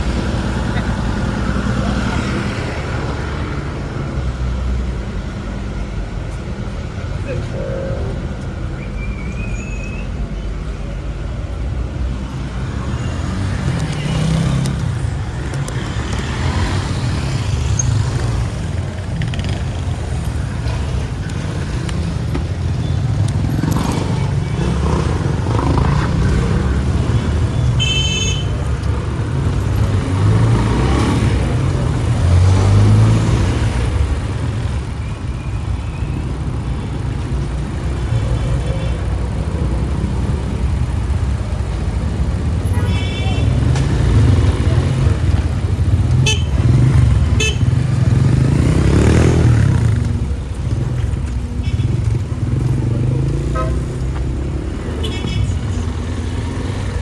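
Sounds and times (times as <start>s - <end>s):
motorbike engine and road rumble: 0.0s - 57.0s
passing vehicles: 0.0s - 57.0s.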